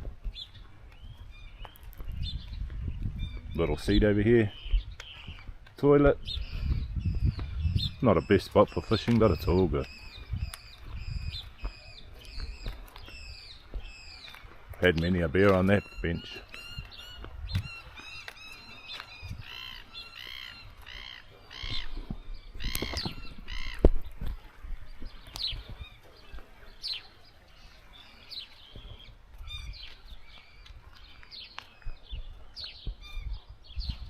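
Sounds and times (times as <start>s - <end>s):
birds calling: 0.0s - 34.0s.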